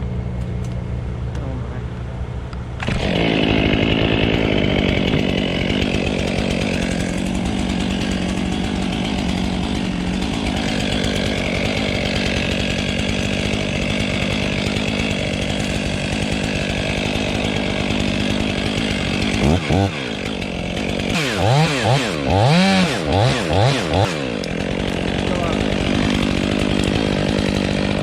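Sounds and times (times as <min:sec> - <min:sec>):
chainsaw running at high speed: 0:02.8 - 0:28.0.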